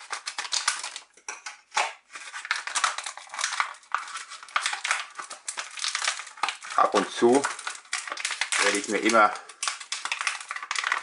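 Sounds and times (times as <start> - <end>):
foil packets crinkling: 0.0 - 11.0
plastic crackling and snapping: 0.0 - 11.0
scissors cutting plastic: 0.0 - 11.0.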